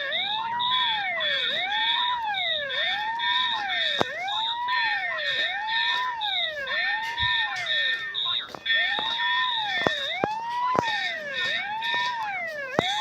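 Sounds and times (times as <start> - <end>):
fire alarm wailing tone: 0.0 - 13.0
rapid high-pitched beeping: 0.0 - 13.0.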